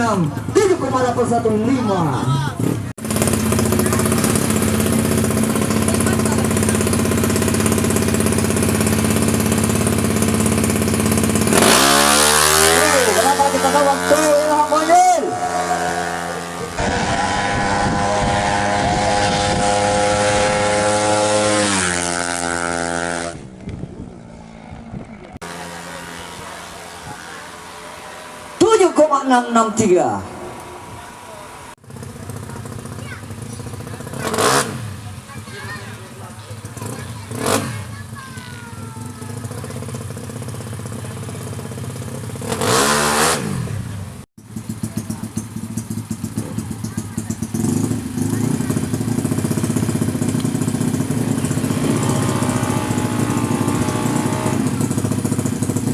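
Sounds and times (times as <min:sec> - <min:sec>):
motorcycle engine at high revs: 0:00.0 - 0:55.9.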